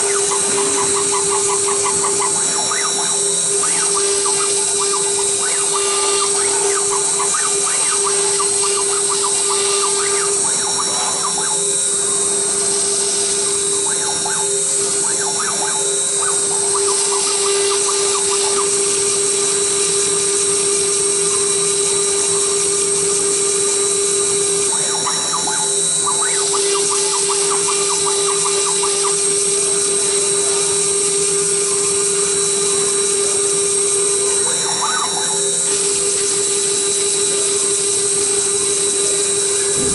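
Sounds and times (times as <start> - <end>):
cnc router humming and whining: 0.0 - 39.9.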